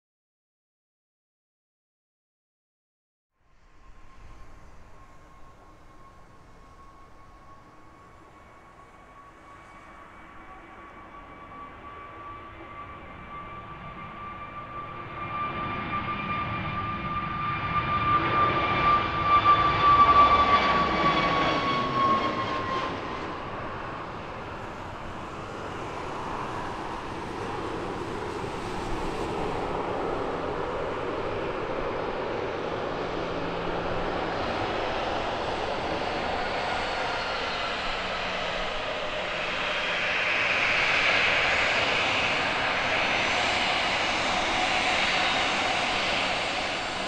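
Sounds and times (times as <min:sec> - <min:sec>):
aircraft engines passing by: 0:03.5 - 0:47.0.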